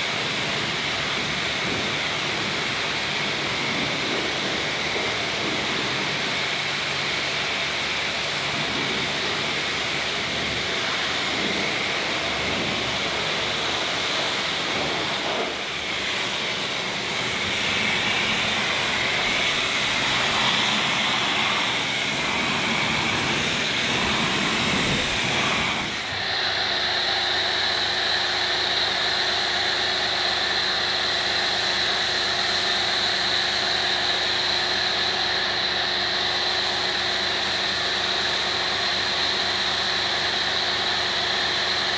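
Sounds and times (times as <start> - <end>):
foam cannon spraying foam: 0.0 - 41.9
pressure washer motor whine: 0.0 - 41.9
pressure washer spraying water: 0.0 - 41.9.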